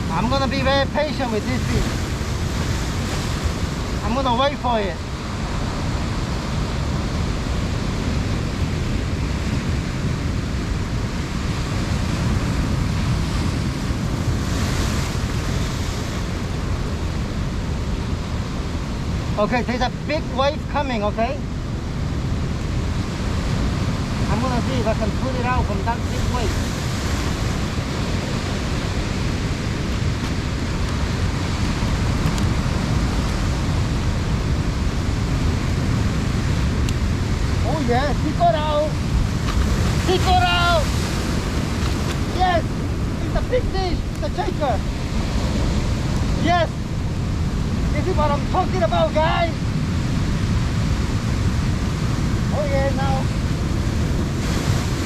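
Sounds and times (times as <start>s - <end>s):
wind buffeting microphone: 0.0s - 20.4s, 21.0s - 55.0s
ocean surf washing over rocks: 0.0s - 55.0s.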